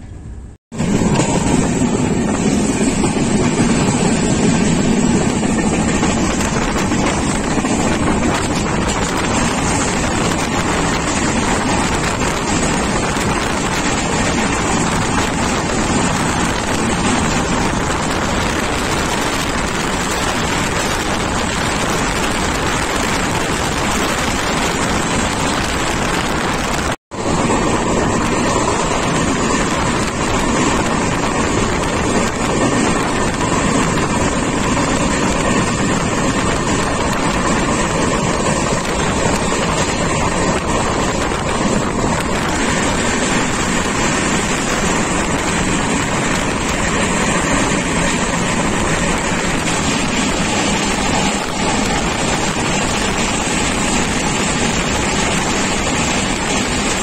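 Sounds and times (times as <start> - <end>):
train passing at speed: 0.0 - 57.0.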